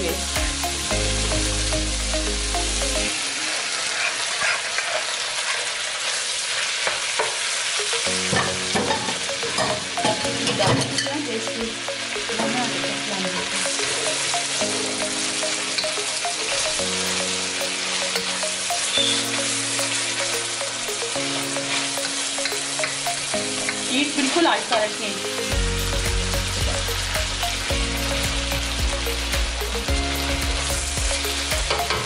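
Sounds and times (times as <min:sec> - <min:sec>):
food sizzling in a wok: 0:00.0 - 0:32.0.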